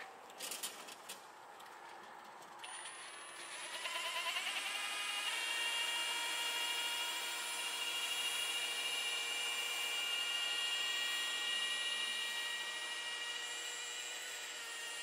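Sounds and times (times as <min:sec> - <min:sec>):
rotary polisher motor whine: 0:02.6 - 0:15.0.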